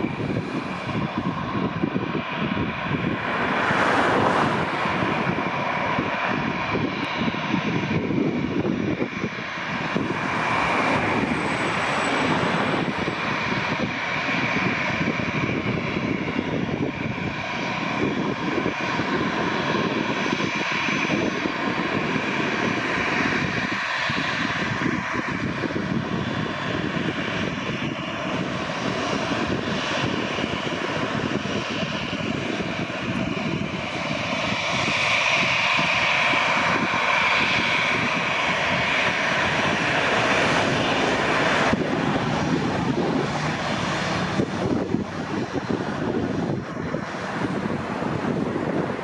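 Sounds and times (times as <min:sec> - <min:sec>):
jet engines taxiing: 0:00.0 - 0:49.0.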